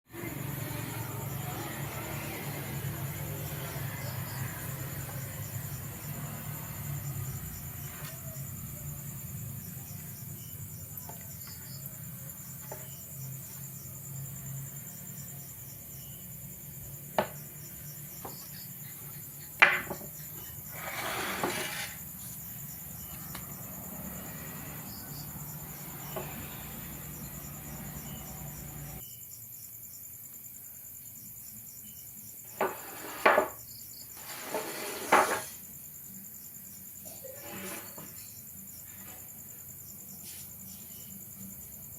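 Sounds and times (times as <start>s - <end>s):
insects chirping: 0.1s - 41.9s.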